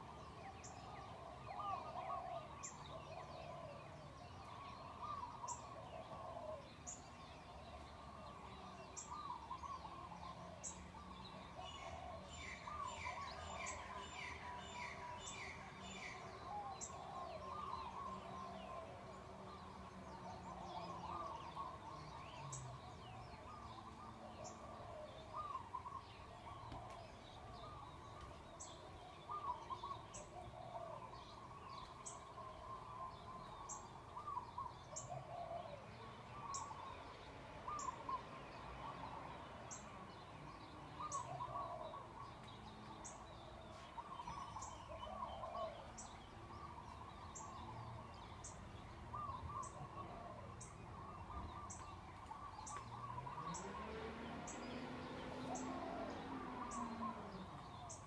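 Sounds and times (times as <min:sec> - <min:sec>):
many birds chirping: 0:00.0 - 0:58.0.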